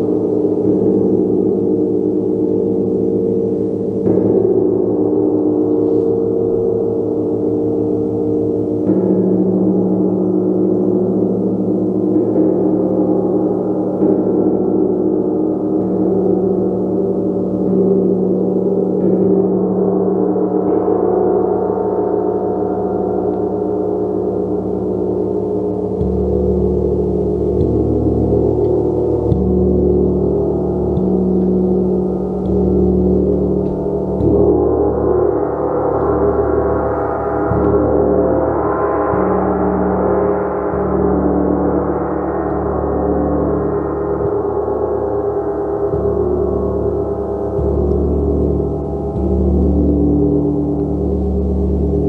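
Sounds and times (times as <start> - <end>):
deeper gong tone: 0.0 - 52.0.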